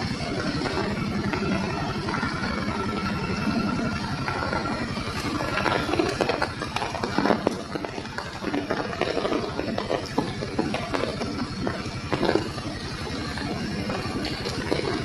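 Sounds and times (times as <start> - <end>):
light rain drops tapping: 0.0 - 15.0.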